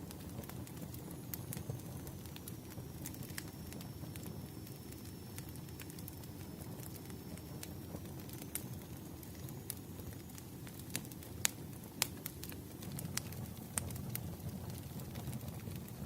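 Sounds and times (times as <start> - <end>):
fire popping and snapping: 0.0 - 16.0
low rumble of flames: 0.0 - 16.0.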